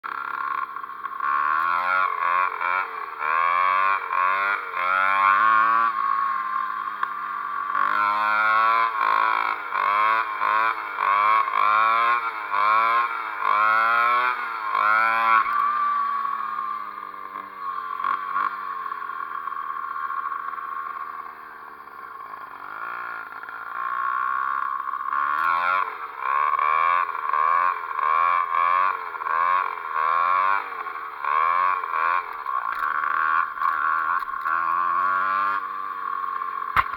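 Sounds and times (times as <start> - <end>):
two-stroke engine revving: 0.0 - 36.9.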